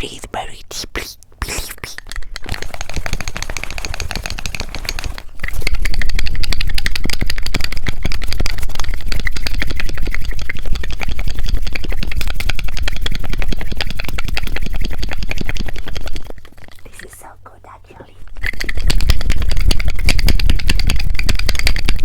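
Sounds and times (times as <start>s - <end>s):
scratching and tapping on microphones: 0.4s - 22.0s.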